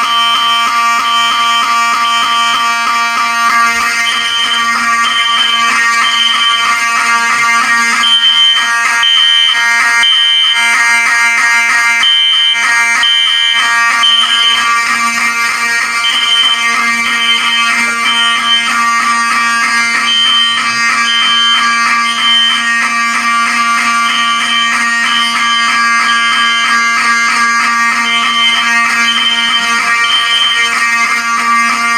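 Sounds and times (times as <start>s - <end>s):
buzzing alarm horn: 0.0s - 31.9s
high alarm beeps: 0.0s - 31.9s.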